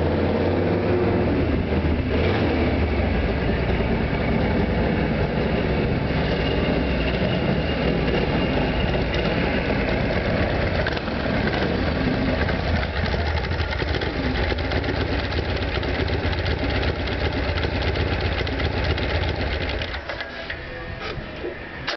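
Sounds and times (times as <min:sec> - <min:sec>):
motorcycle engine idling: 0:00.0 - 0:20.8.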